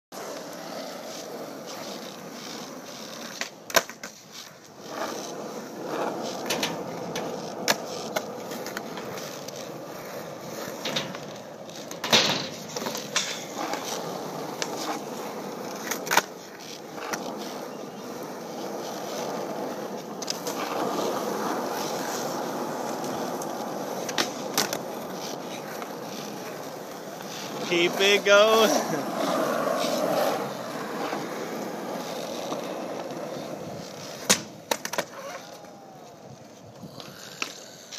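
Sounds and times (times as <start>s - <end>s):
skateboard wheels rolling on concrete: 0.1s - 37.9s
skateboard clacking on ground: 0.2s - 37.9s.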